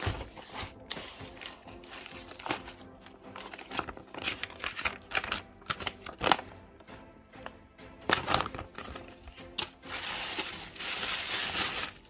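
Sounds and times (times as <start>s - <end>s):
plastic wrap and paper crinkling: 0.0s - 6.5s, 8.0s - 12.0s
background music: 0.0s - 12.0s.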